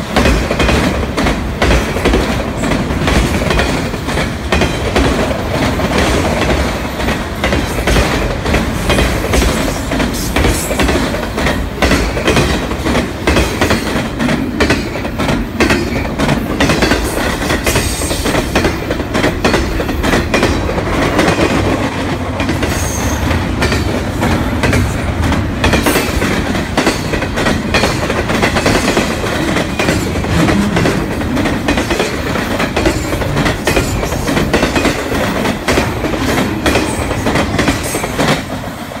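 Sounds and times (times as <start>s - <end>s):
rapid clacking of train wheels: 0.0s - 39.0s
train wheels rumbling on rail: 0.0s - 39.0s.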